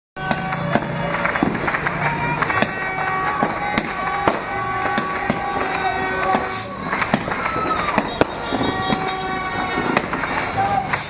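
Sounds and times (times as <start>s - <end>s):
firecrackers banging and crackling: 0.2s - 11.0s.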